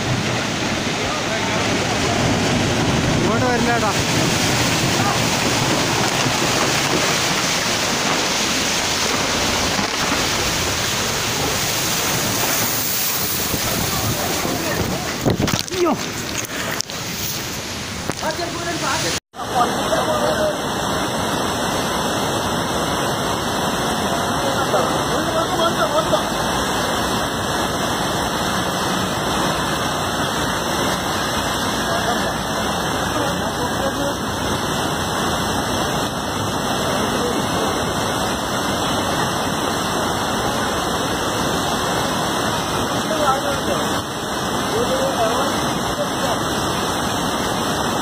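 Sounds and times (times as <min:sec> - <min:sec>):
rush of floodwater and earth: 0:00.0 - 0:48.0.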